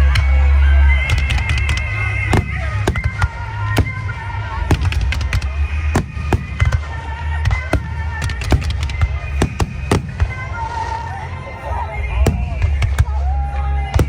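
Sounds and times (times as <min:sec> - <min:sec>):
music over loudspeakers: 0:00.0 - 0:14.0
fireworks bangs: 0:01.1 - 0:11.4, 0:12.0 - 0:14.0.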